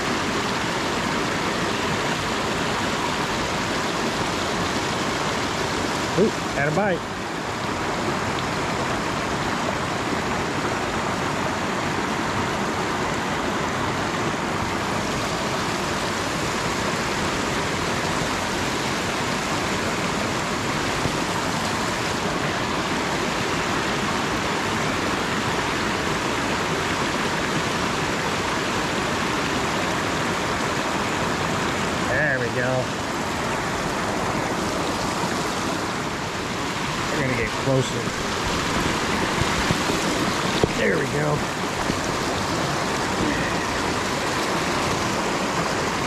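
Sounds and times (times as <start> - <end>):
river water rushing over rocks: 0.0 - 46.0.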